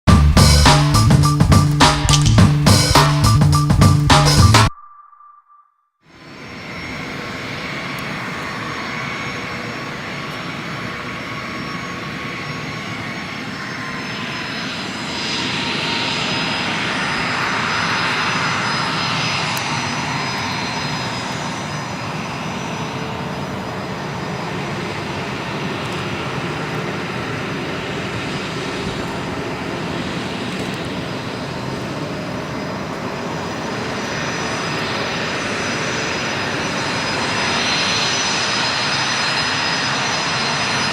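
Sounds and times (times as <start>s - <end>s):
jet engines whining: 0.3s - 4.9s, 6.1s - 40.9s.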